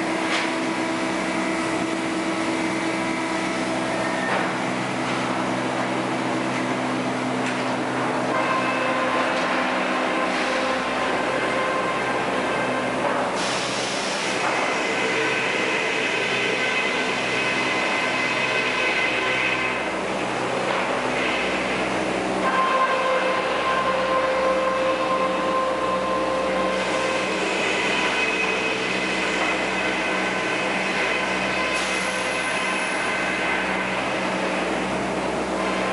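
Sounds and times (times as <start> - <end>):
sawmill machinery hum: 0.0 - 35.9.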